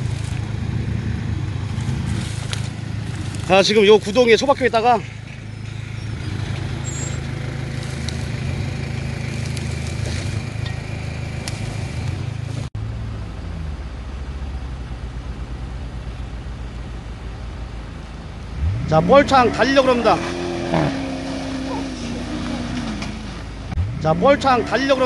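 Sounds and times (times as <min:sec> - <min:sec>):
engine low throb: 0:00.0 - 0:25.0
engine running under load: 0:00.0 - 0:25.0.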